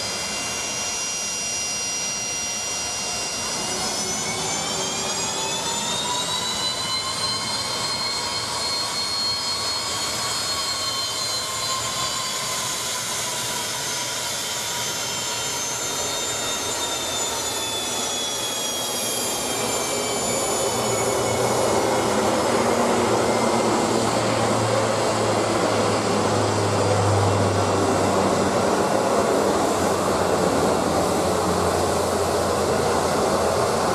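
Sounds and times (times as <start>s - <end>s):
high turbine whine: 0.0s - 33.9s
propeller roar with low hum: 0.0s - 33.9s.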